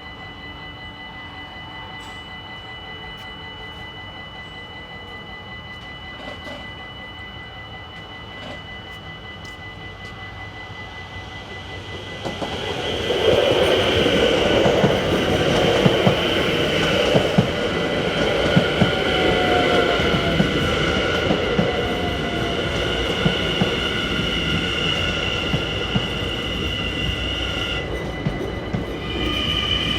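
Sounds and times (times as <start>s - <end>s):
level crossing warning bells: 0.0s - 29.9s
train rumbling over crossing: 0.0s - 29.9s.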